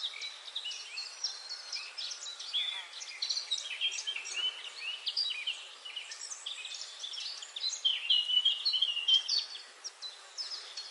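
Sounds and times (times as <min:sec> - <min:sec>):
small birds chirping: 0:00.0 - 0:10.9.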